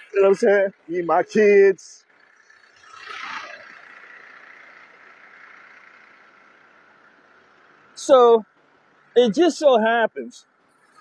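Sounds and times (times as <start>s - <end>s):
vehicle passing: 0.0s - 9.4s.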